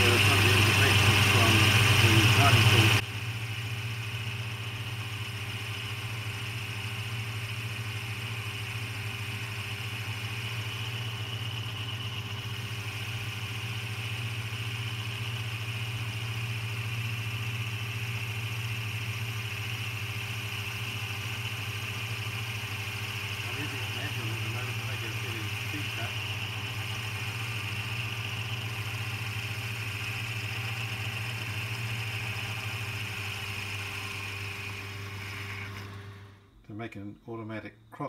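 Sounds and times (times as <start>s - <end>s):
lathe cutting metal: 0.0s - 36.2s.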